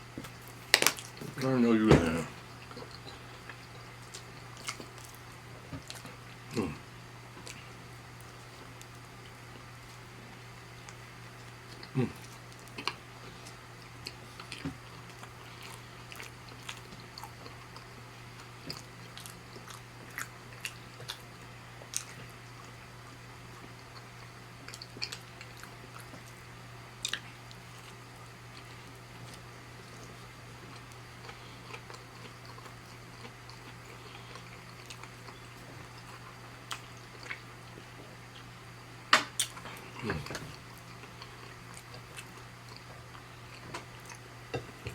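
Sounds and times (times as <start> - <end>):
steady low hum: 0.0 - 44.9
close chewing: 2.4 - 6.8, 10.9 - 22.8, 23.5 - 26.4, 27.0 - 38.5, 39.4 - 44.9.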